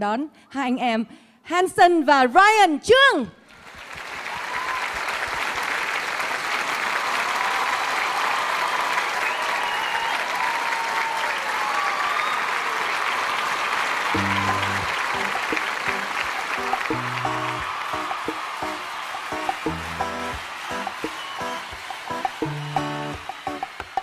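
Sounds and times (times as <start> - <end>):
audience applauding: 3.5 - 24.0.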